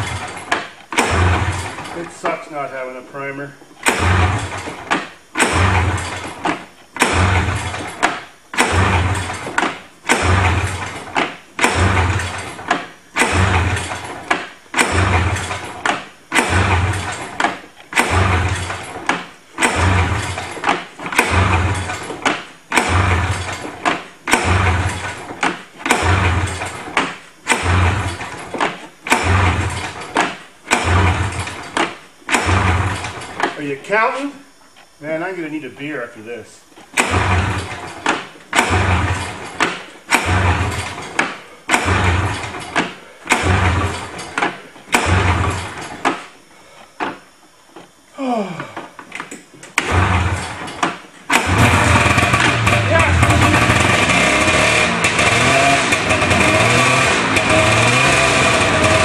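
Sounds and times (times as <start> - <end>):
engine turning over: 0.0 - 3.0, 3.7 - 34.3, 36.9 - 46.4, 48.2 - 59.0
recoil starter pulls: 0.0 - 34.4, 36.8 - 59.0.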